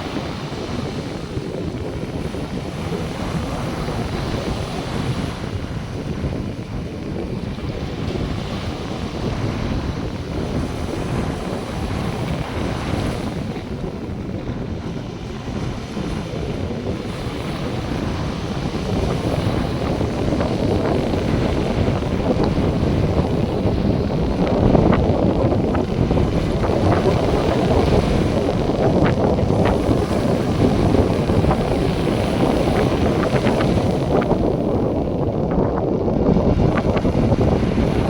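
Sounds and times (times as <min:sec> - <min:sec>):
surf washing: 0:00.0 - 0:38.0
wind buffeting microphone: 0:00.0 - 0:38.0.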